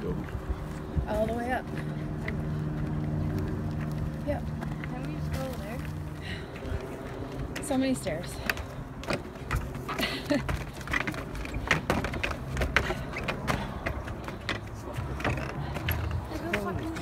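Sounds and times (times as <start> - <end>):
footsteps on wooden stairs: 0.3 - 17.0.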